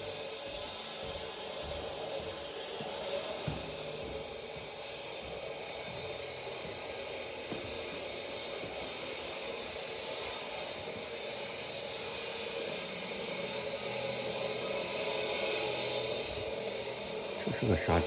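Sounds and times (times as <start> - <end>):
steady hissing: 0.0 - 18.0.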